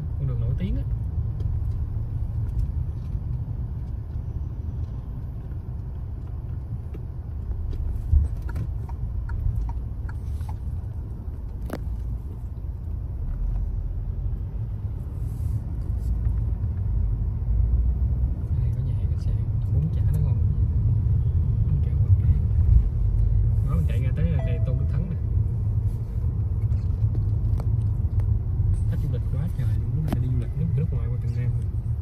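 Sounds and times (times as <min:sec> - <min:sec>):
car cabin rumble: 0:00.0 - 0:17.0, 0:21.8 - 0:32.0.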